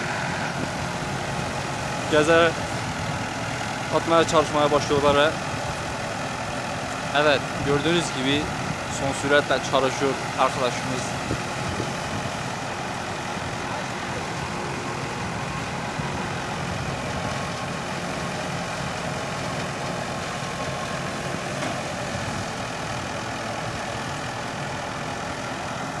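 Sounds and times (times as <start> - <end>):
tractor engine drone: 0.0 - 26.0.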